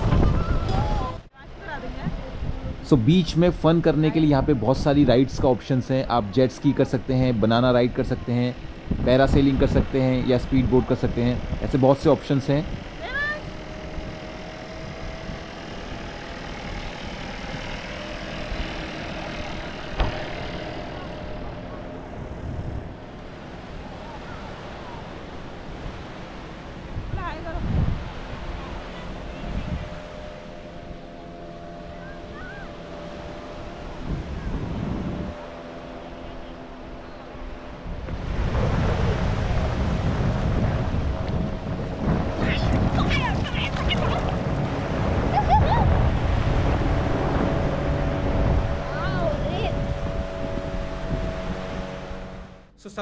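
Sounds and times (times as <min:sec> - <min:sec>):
small waves washing ashore: 0:00.0 - 0:52.7
wind buffeting microphone: 0:00.0 - 0:52.7
jeep engine running: 0:00.0 - 0:53.0.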